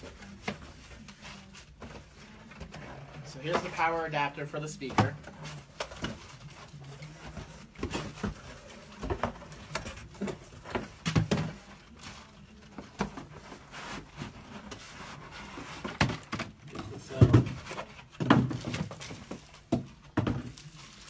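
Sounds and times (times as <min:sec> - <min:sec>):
cardboard packaging rustling: 0:00.0 - 0:21.0.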